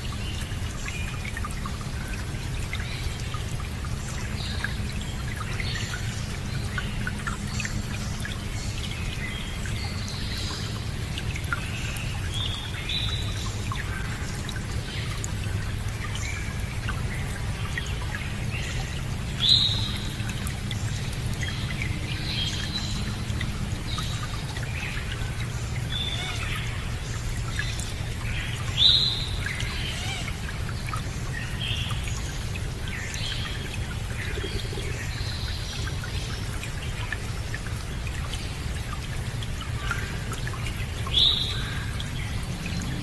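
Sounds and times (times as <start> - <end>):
running water: 0.0 - 43.0
songbirds chirping: 0.0 - 43.0.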